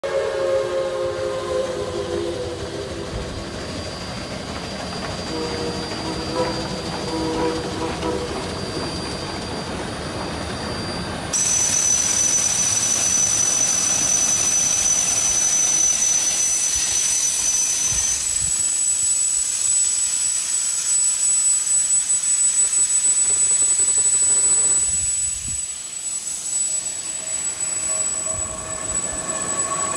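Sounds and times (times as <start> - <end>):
steam locomotive hissing: 0.0 - 29.9
faint high whine: 0.1 - 29.9.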